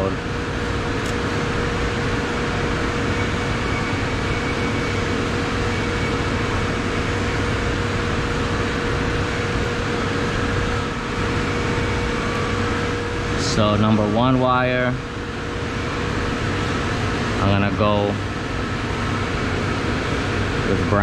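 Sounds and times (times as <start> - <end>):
machinery droning: 0.0 - 21.0.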